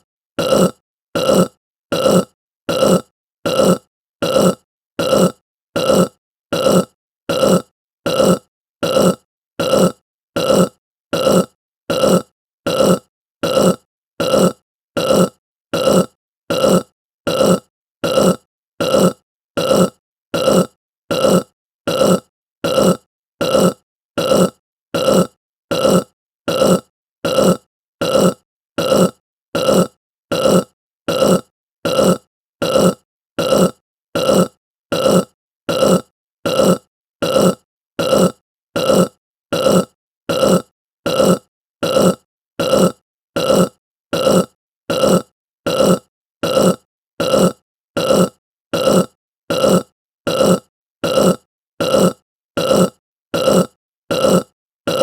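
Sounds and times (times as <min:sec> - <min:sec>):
person burping: 0:00.4 - 0:55.0.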